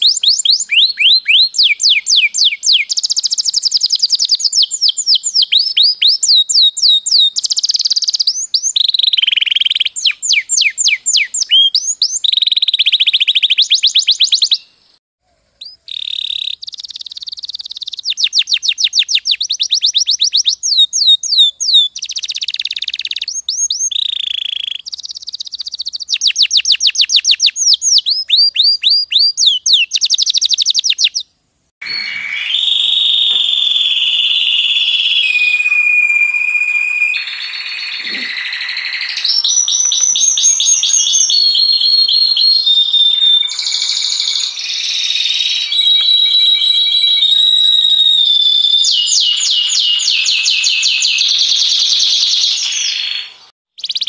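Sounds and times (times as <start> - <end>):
canaries singing trills: 0.0 - 14.7, 15.6 - 31.2, 37.2 - 54.0.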